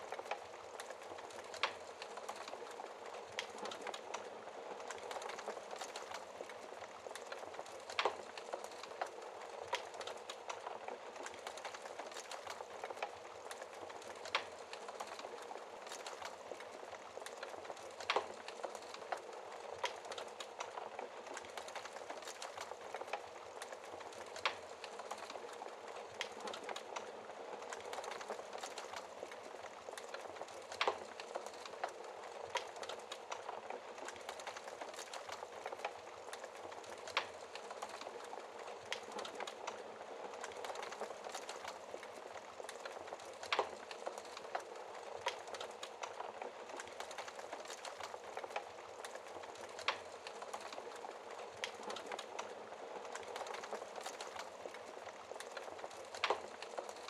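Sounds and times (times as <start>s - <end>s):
fire hissing and crackling: 0.0s - 57.0s.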